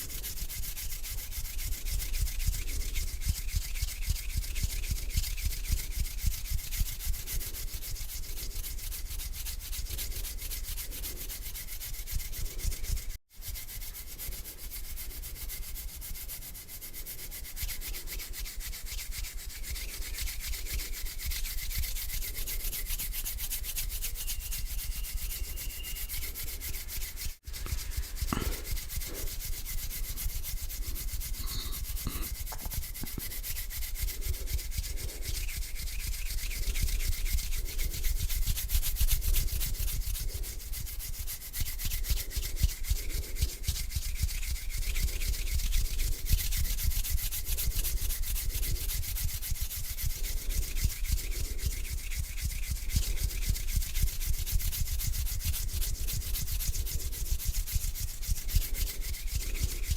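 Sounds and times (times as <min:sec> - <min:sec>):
hands rubbing together: 0:00.0 - 0:59.9.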